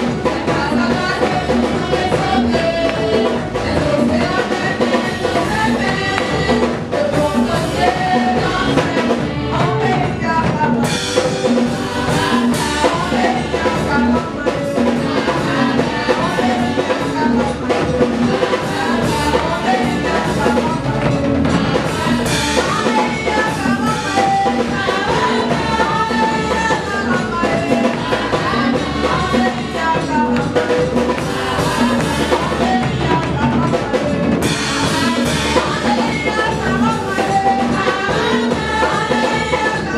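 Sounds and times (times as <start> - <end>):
drum kit beat: 0.0 - 39.9
women singing gospel: 0.0 - 39.9.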